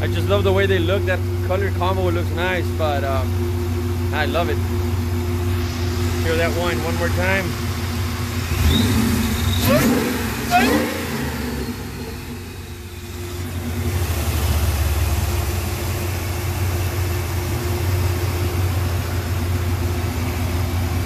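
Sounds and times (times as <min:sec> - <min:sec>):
supercharger whine: 0:00.0 - 0:21.0
truck engine idling: 0:00.0 - 0:21.0.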